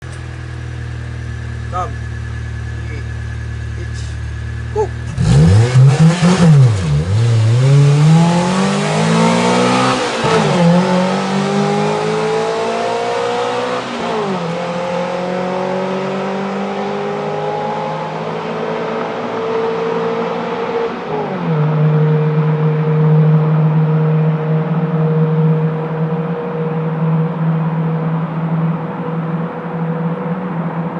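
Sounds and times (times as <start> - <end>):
car exhaust echoing in tunnel: 0.0 - 30.9.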